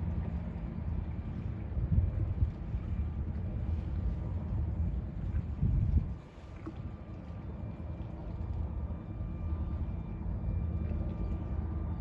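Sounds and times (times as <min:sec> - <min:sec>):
faint steady hum: 0:00.0 - 0:12.0
ship engine low rumble: 0:00.0 - 0:12.0.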